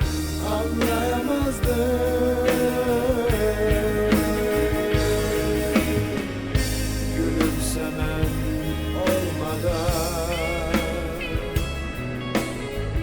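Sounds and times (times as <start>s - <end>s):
bass guitar: 0.0s - 13.0s
electric guitar: 0.0s - 13.0s
steady drum beat: 0.0s - 13.0s.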